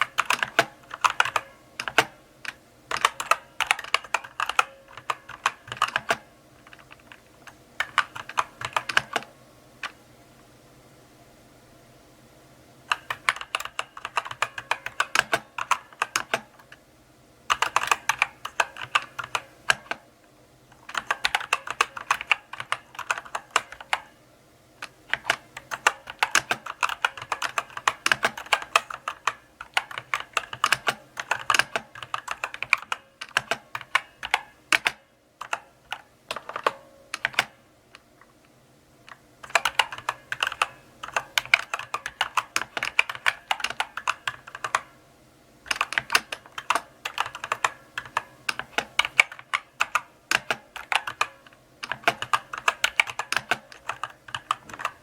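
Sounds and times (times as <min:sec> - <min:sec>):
mechanical keyboard key clicks: 0:00.0 - 0:07.2, 0:07.8 - 0:10.0, 0:12.9 - 0:16.8, 0:17.5 - 0:20.0, 0:20.8 - 0:24.1, 0:24.8 - 0:37.6, 0:39.1 - 0:44.9, 0:45.7 - 0:55.0.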